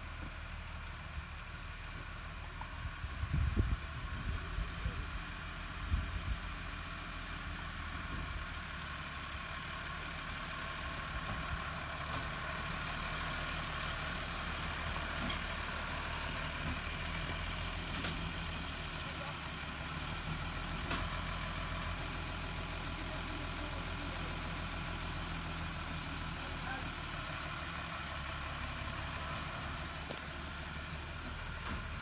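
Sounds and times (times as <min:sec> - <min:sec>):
tractor engine drone: 0:00.0 - 0:32.0.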